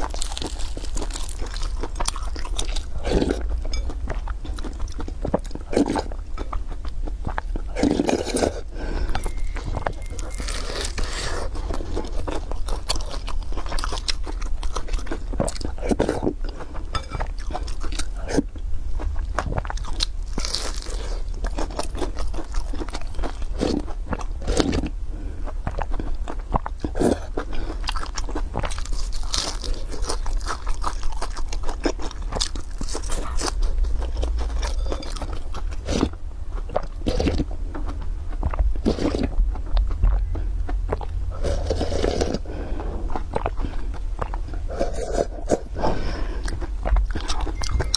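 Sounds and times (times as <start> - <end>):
crunching bites and chewing: 0.0 - 47.9.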